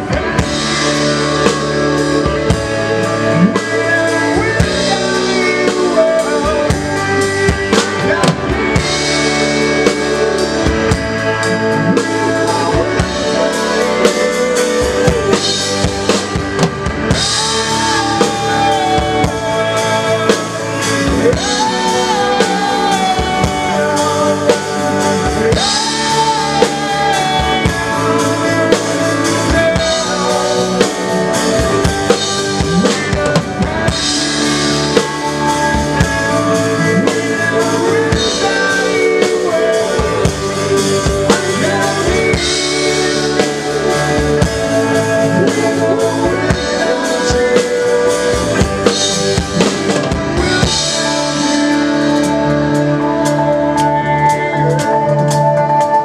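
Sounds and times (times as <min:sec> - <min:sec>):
drum kit: 0:00.0 - 0:56.0
live band playing: 0:00.0 - 0:56.0.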